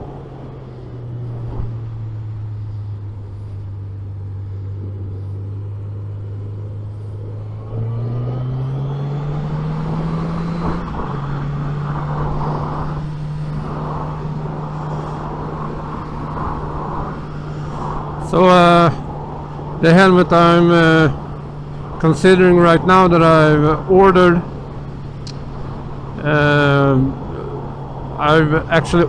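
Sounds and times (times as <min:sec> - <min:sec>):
motorcycle engine: 0:00.0 - 0:29.0
wind rush: 0:00.0 - 0:29.0.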